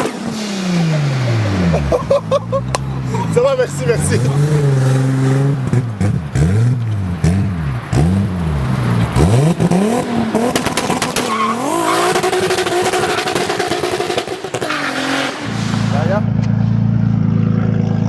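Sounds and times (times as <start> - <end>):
car engine revving: 0.0 - 18.0
exhaust crackle: 0.0 - 18.0.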